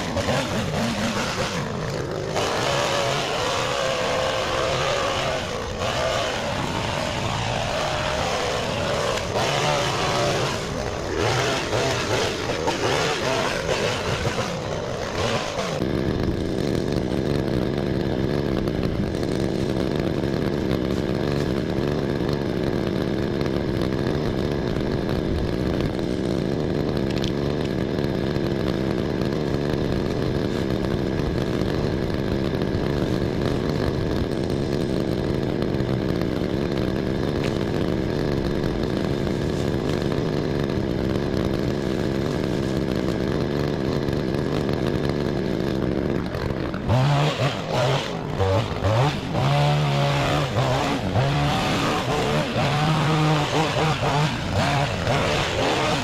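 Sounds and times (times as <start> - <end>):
power pruning tool running: 0.0 - 56.0.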